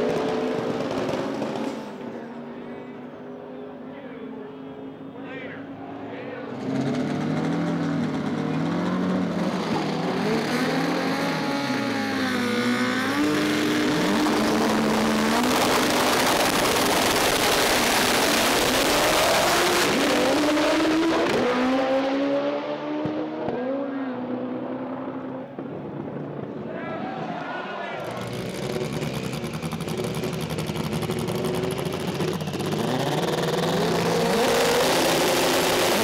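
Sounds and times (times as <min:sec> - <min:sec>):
race cars accelerating at full throttle: 0:00.0 - 0:26.6, 0:28.0 - 0:36.0
race car engines revving: 0:00.0 - 0:26.7, 0:28.0 - 0:36.0.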